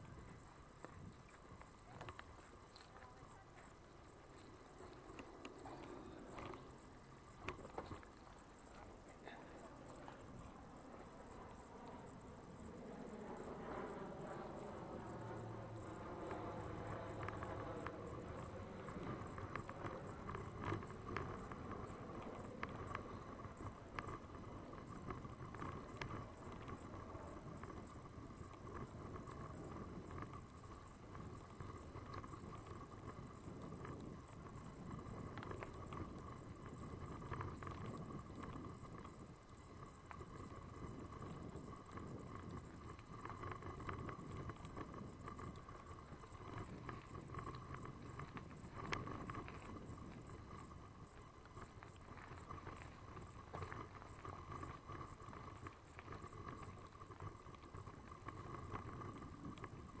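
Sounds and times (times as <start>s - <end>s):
bicycle rattling: 0.0s - 60.0s
bicycle tyres rumbling on gravel: 0.0s - 60.0s.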